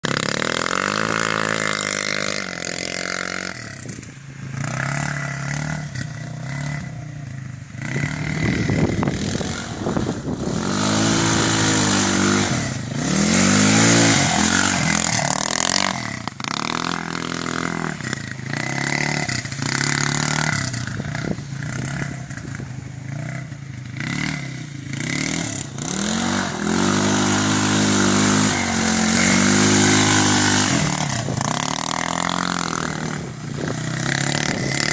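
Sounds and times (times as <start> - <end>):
vehicle engine revving: 0.0 - 34.9.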